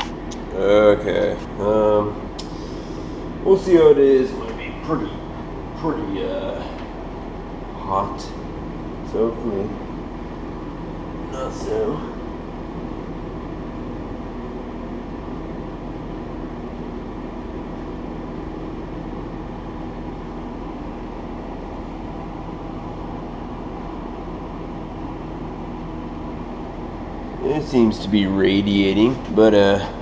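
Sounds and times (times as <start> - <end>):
mechanical hum with rushing noise: 0.0 - 30.0.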